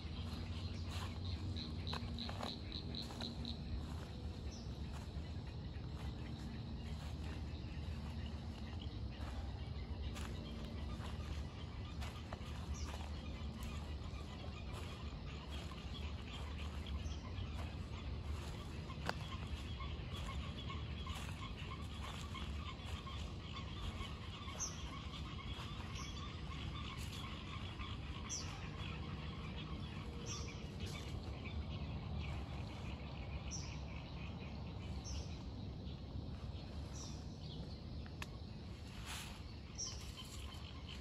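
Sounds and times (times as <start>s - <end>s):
fine trilling bird chorus: 0.0s - 41.0s.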